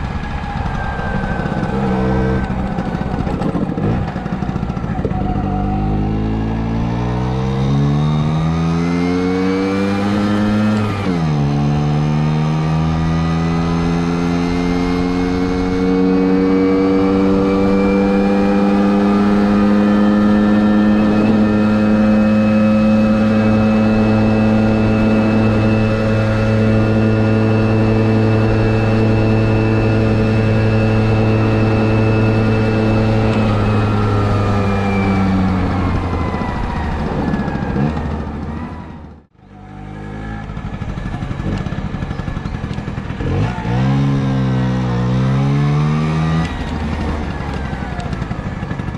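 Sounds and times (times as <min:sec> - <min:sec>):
scooter engine revving: 0:00.0 - 0:48.9.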